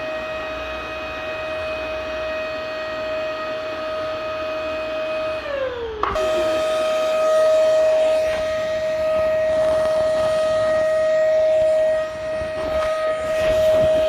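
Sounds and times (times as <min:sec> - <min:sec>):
vacuum cleaner motor whining: 0:00.0 - 0:14.0.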